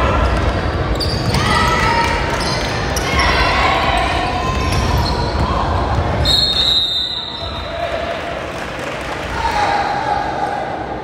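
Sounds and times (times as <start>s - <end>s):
voices echoing in hall: 0.0s - 11.0s.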